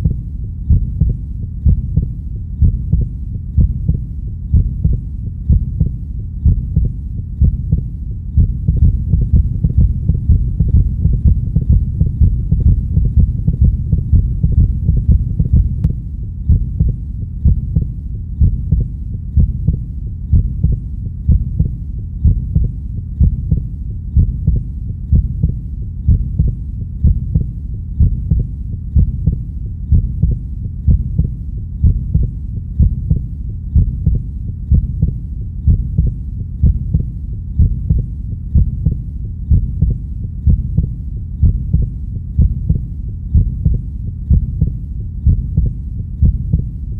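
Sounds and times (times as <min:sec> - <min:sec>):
constant low rumble: 0:00.0 - 0:46.9
heartbeat thumps: 0:00.0 - 0:46.9.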